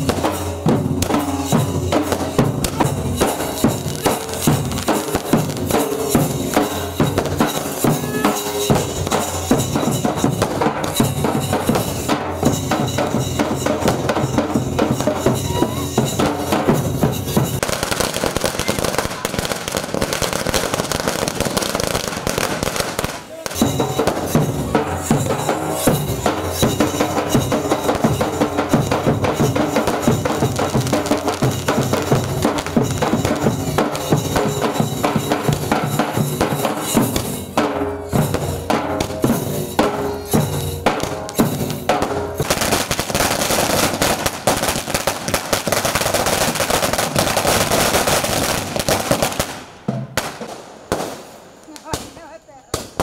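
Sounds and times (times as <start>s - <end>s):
music with heavy drumming: 0.0s - 51.1s.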